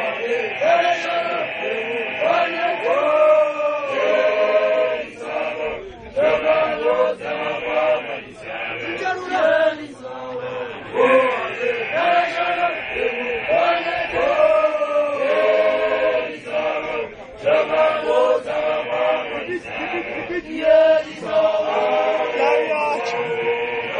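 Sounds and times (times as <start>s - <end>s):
group of men chanting: 0.0s - 23.9s.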